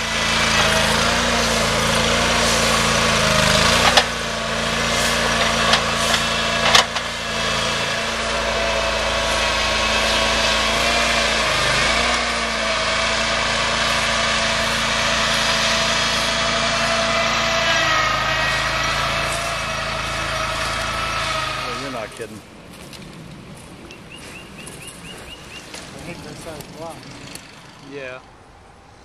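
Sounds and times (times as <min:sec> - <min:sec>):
chainsaw cutting log: 0:00.0 - 0:22.3, 0:25.7 - 0:28.0.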